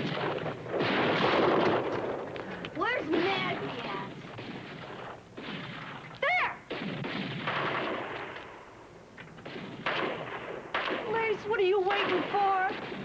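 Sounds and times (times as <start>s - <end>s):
gunfire: 0.0s - 13.0s.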